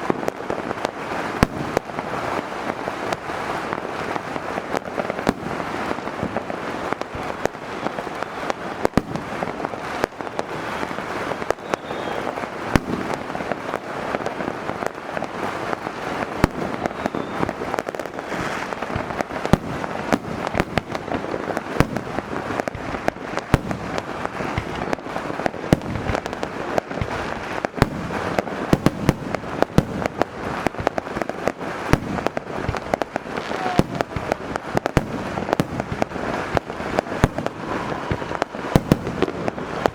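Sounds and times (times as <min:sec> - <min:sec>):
firework bangs and crackling: 0:00.0 - 0:39.9.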